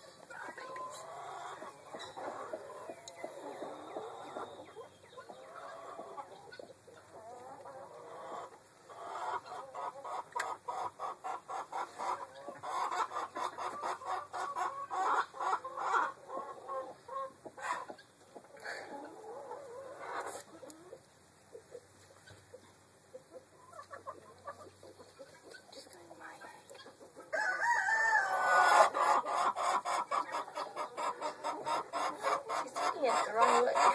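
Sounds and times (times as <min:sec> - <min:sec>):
hen clucking: 0:00.0 - 0:33.9.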